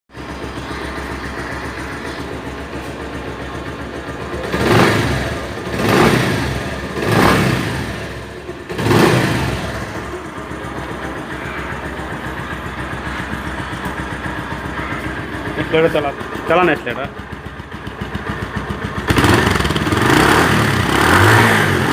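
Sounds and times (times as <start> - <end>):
motorcycle engine idling and revving: 0.1 - 21.9.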